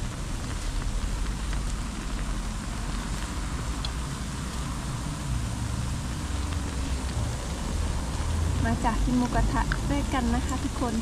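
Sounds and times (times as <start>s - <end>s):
broth simmering: 0.0s - 11.0s
meat sizzling: 0.0s - 11.0s.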